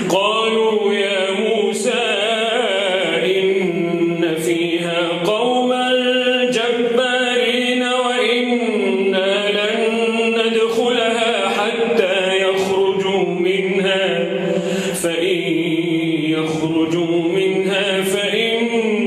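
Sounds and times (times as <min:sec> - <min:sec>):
man reciting in melodic chant: 0:00.0 - 0:19.0.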